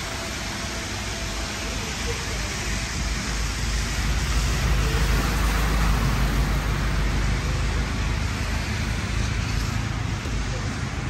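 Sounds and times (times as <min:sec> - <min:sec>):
rain on a car: 0:00.0 - 0:11.0.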